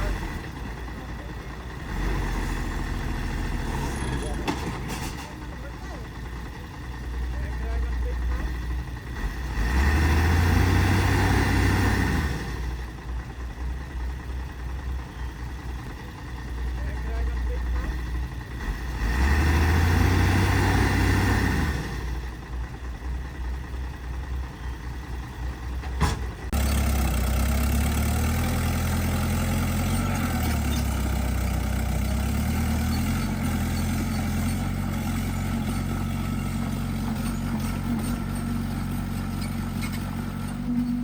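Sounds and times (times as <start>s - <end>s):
heavy diesel engine droning: 0.0s - 41.0s.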